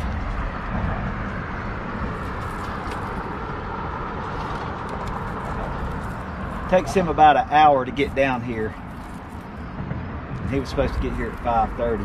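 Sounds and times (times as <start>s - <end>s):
traffic crossing a bridge: 0.0s - 12.0s.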